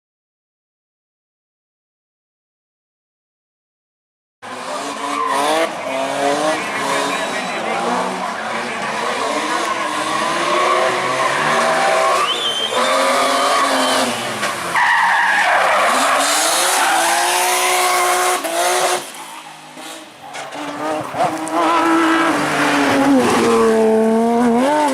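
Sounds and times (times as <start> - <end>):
rally car engine revving: 4.4 - 24.9.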